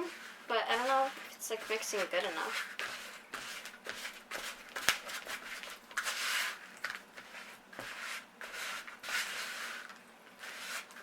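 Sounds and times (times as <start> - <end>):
utensil scraping mixing bowl: 0.0 - 4.6, 5.3 - 6.6, 7.2 - 11.0.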